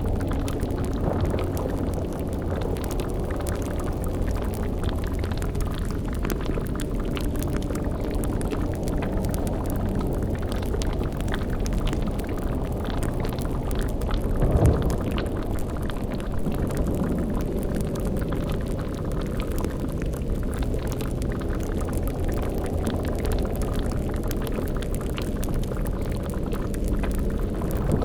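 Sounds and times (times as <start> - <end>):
cauldron low rumble: 0.0 - 28.0
liquid bubbling: 0.0 - 28.0
small crackles: 0.0 - 28.0.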